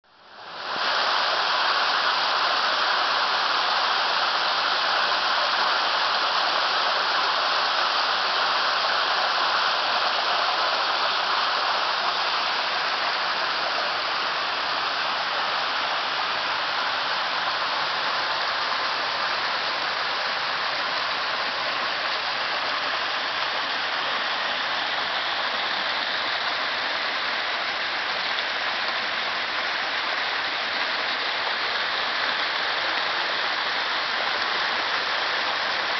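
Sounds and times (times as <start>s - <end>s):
water gushing over rocks: 0.1s - 35.9s.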